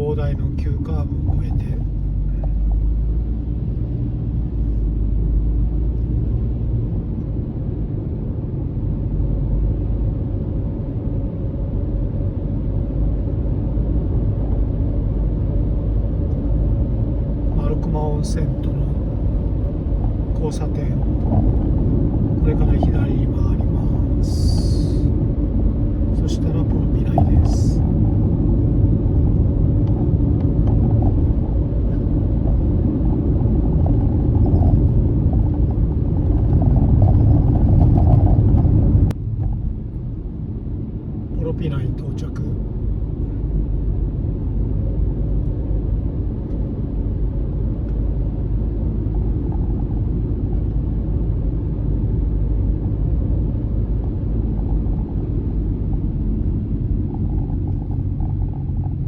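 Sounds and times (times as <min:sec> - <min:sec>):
vehicle driving on road: 0:00.0 - 0:59.0.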